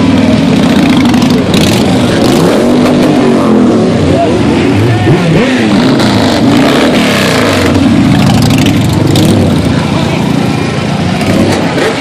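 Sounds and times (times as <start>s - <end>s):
crowd voices: 0.0s - 12.0s
motorcycle engines revving: 0.0s - 12.0s.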